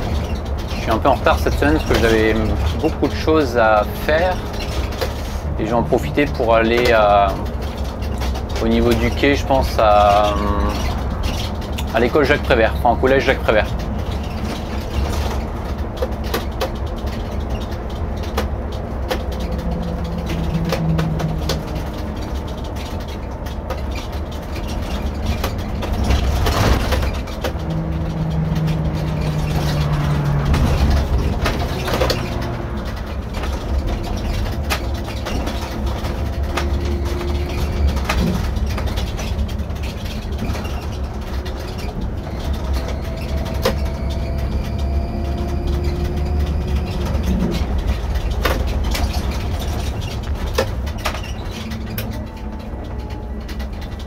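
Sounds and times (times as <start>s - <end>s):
diesel bus engine rumble: 0.0s - 54.0s
rattles and clicks: 0.0s - 54.0s.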